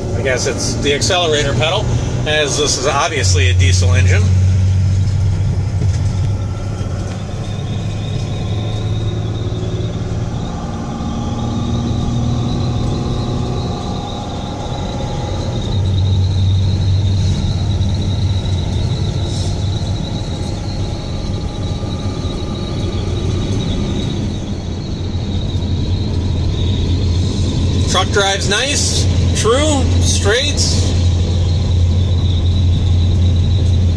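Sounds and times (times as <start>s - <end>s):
diesel truck engine drone: 0.0s - 33.9s
faint high whine: 0.0s - 33.9s.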